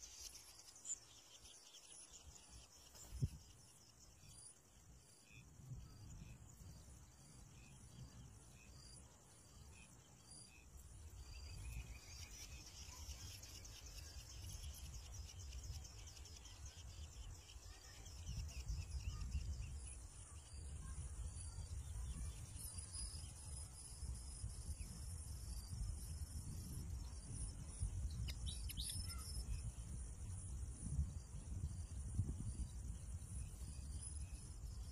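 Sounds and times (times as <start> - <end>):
high fast insect trill: 0.0 - 6.4, 7.2 - 34.9
faint chirps: 0.0 - 34.9
wind rumble on microphone: 1.9 - 34.9.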